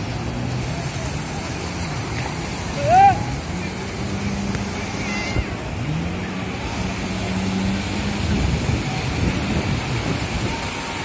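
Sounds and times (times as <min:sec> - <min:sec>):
jet ski engine running: 0:00.0 - 0:11.0
surf: 0:00.0 - 0:11.0
wind: 0:00.0 - 0:11.0.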